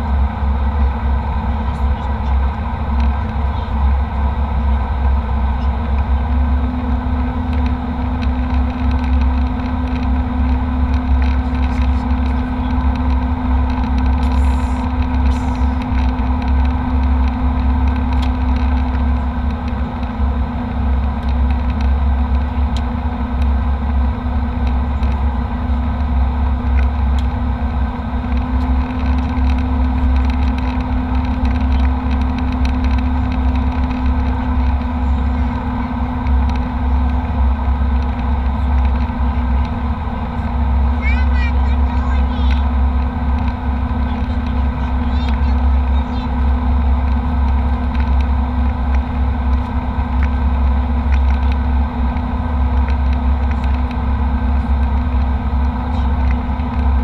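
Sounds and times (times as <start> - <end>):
jet cabin rumble: 0.0 - 57.0
steady hum: 0.0 - 57.0.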